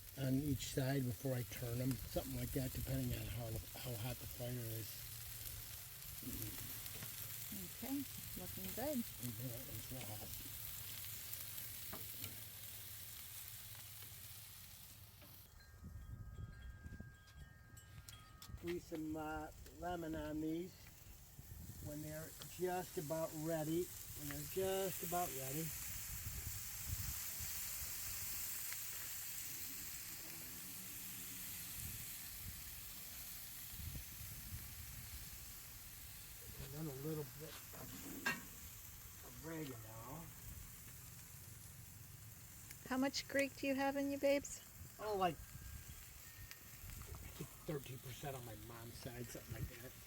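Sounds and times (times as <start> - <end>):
meat sizzling on a charcoal grill: 0.0 - 50.0.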